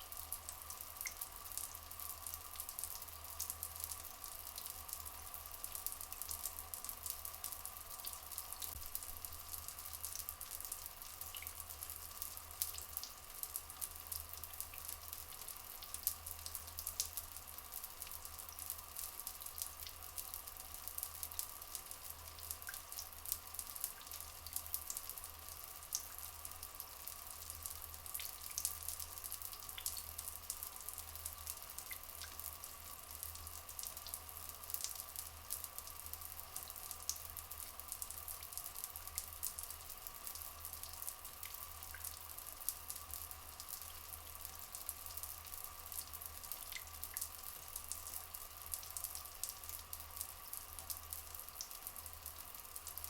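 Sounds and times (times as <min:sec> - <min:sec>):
water running and dripping: 0:00.0 - 0:53.0.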